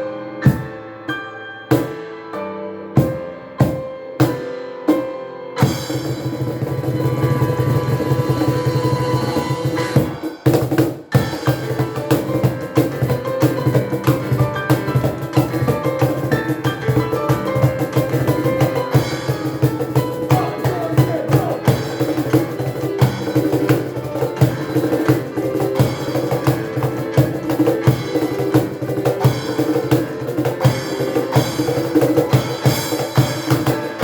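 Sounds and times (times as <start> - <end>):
piano chords: 0.0 - 34.0
hand percussion hits: 5.6 - 34.0.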